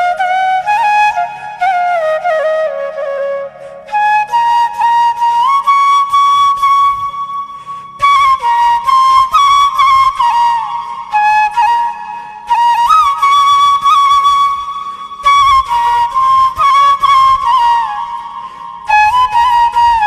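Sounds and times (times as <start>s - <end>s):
flute playing slow melody: 0.0s - 20.0s.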